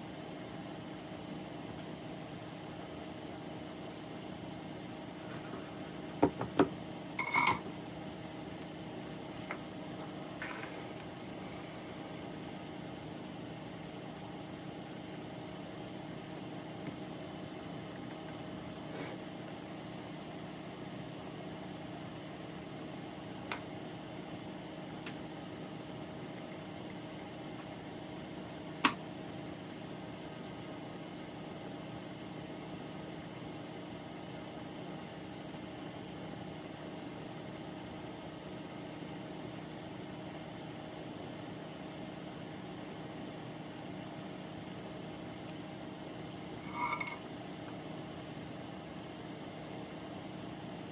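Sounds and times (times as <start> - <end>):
electrical hum: 0.0 - 31.1, 40.3 - 50.8.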